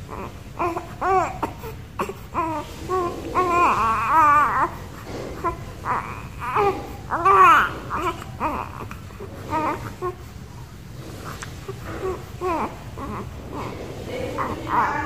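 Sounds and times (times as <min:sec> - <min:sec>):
baby cooing and whining: 0:00.0 - 0:10.5, 0:11.2 - 0:15.0.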